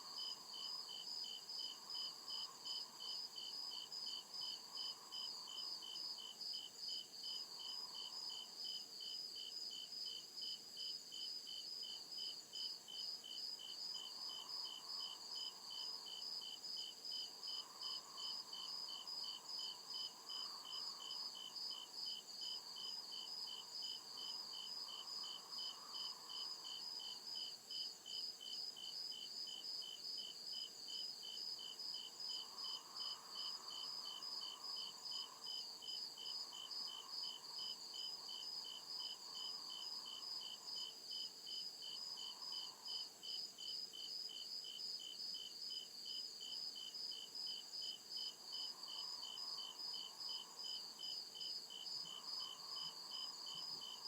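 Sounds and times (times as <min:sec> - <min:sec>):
crickets chirping: 0:00.0 - 0:54.0
faint insect hum: 0:00.0 - 0:54.0.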